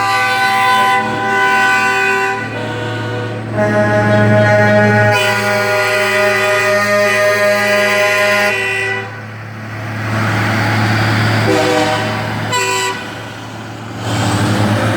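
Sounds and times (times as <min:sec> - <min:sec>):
truck horn: 0:00.0 - 0:13.4
truck engine passing: 0:00.0 - 0:14.9.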